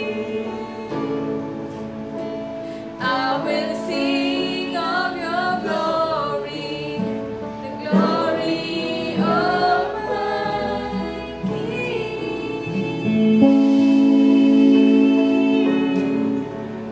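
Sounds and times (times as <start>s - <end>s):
women singing: 0.0s - 2.0s, 2.9s - 16.9s
guitar: 0.0s - 16.9s
keyboard: 0.0s - 16.9s.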